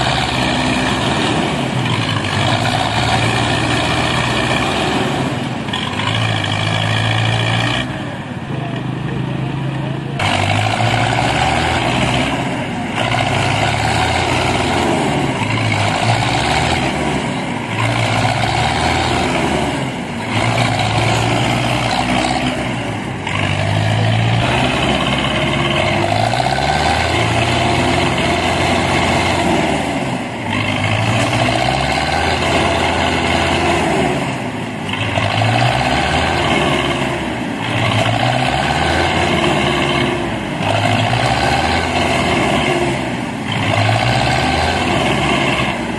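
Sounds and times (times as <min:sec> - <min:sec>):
diesel tractor engine revving: 0:00.0 - 0:45.9.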